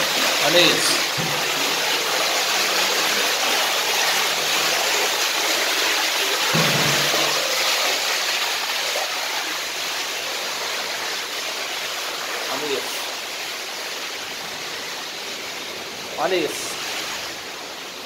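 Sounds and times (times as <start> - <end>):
water gushing from toilet: 0.0 - 18.0.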